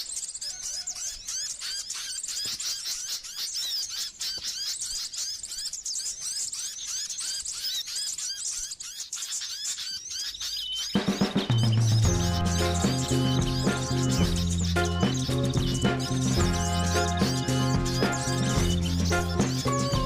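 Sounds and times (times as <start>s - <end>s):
songbird twittering: 0.0s - 20.0s.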